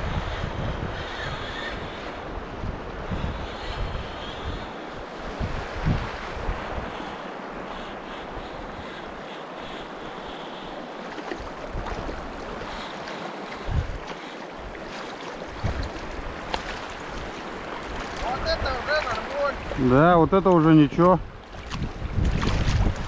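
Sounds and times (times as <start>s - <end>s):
wind buffeting microphone: 0.0s - 23.0s
river water rushing: 3.8s - 23.0s.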